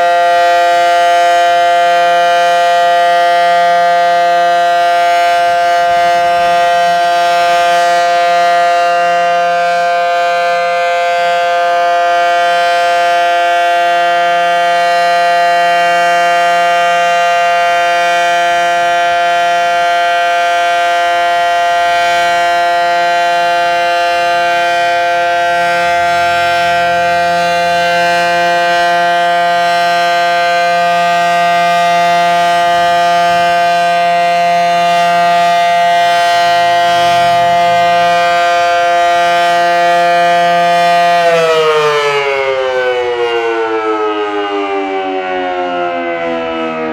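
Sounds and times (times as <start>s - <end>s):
steady warning siren chord: 0.0s - 46.9s.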